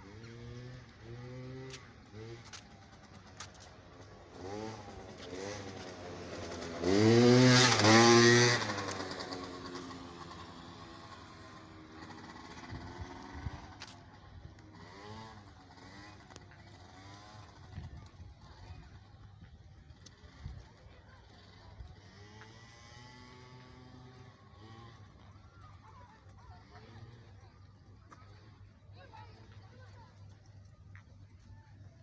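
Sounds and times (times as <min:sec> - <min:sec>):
motor vehicle engine passing: 0:00.0 - 0:19.0, 0:20.0 - 0:30.2.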